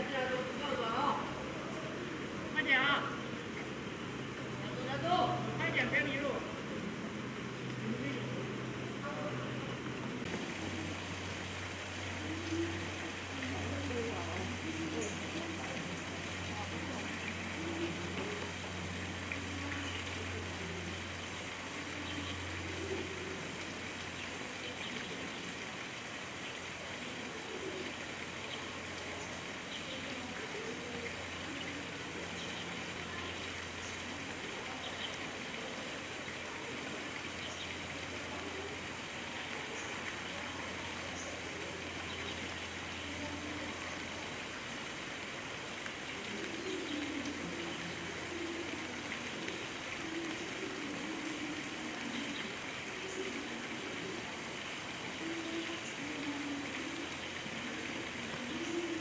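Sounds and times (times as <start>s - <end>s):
running water: 0.0s - 59.0s
faint murmur of voices: 4.5s - 25.7s, 26.8s - 59.0s.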